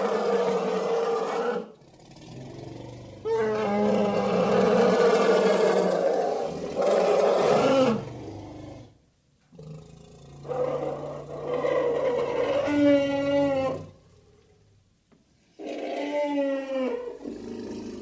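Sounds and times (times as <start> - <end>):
elephant roaring: 0.0 - 9.0, 9.6 - 14.4, 15.6 - 18.0
elephant low growl: 0.0 - 14.5, 15.6 - 18.0.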